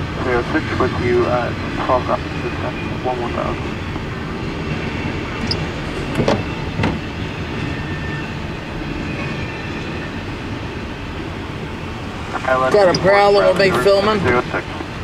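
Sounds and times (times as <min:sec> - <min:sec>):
freight train wheels rumbling on rail: 0:00.0 - 0:15.0.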